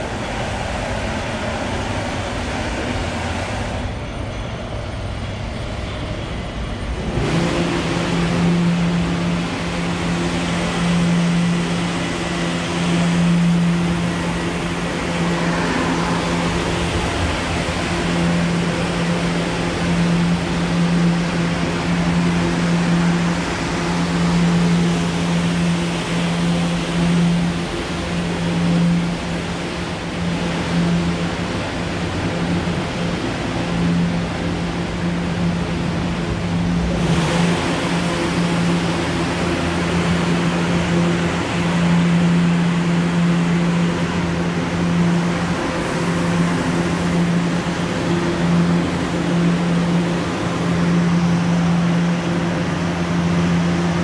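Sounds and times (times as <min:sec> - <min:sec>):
train humming: 0:00.0 - 0:54.0
wheels rumbling on rail: 0:00.0 - 0:54.0.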